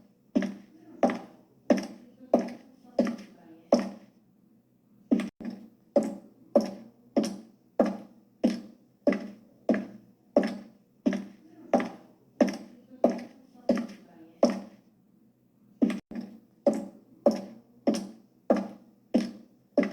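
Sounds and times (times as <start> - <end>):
high heels clicking on hard floor: 0.4 - 4.1, 5.1 - 14.8, 15.8 - 19.9.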